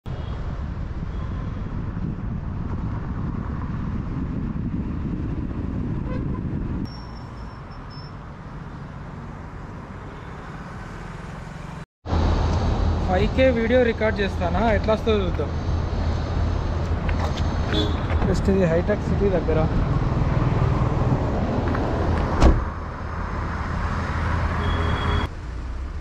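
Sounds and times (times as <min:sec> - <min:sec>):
car engine and tyre rumble: 0:00.1 - 0:26.0.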